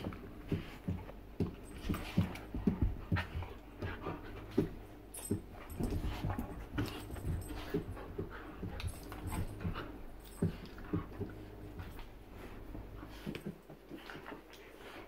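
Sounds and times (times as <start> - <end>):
dogs panting: 0.0 - 15.0
paws scuffling on carpet: 0.0 - 15.0.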